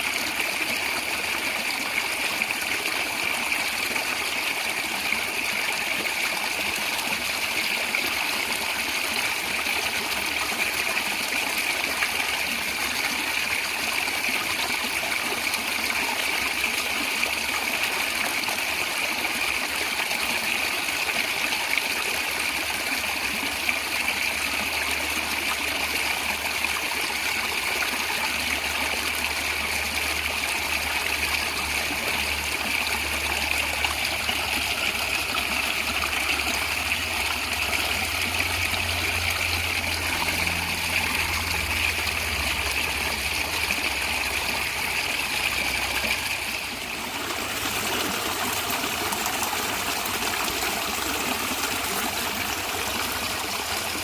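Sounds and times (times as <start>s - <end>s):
stream water flowing and gurgling: 0.0s - 54.0s.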